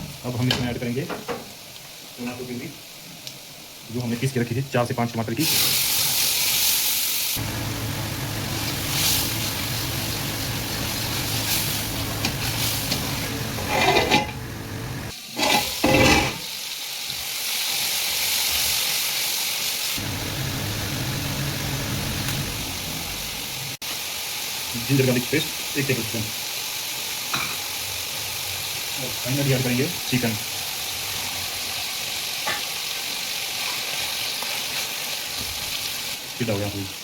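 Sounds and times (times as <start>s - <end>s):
masala sizzling in hot oil: 0.0s - 37.0s.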